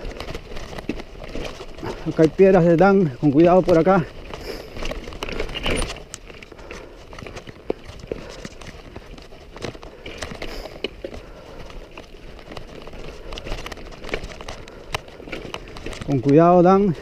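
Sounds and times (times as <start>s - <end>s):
bike knocking and rattling: 0.0s - 17.0s
bike tyres crunching on rocks: 0.0s - 17.0s.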